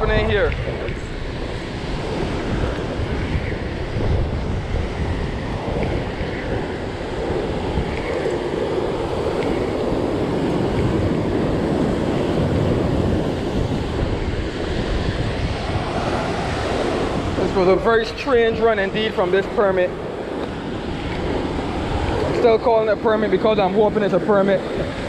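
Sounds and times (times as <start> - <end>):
surf breaking over rocks: 0.0 - 25.0
wind buffeting microphone: 0.0 - 25.0.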